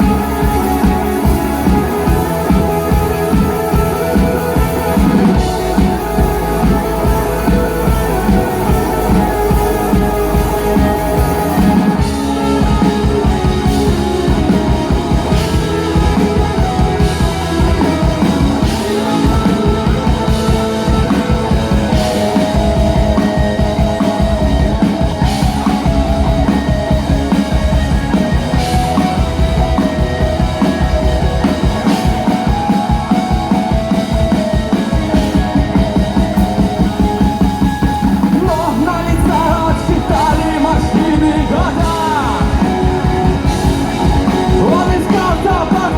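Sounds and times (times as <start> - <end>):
bending melodic line: 0.0 - 45.9
drums fast beat: 0.0 - 45.9
sustained guitar lines: 0.0 - 45.9.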